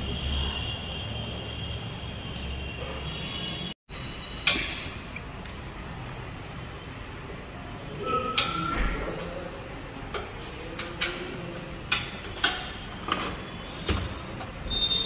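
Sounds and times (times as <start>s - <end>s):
workshop background noise: 0.0s - 15.0s.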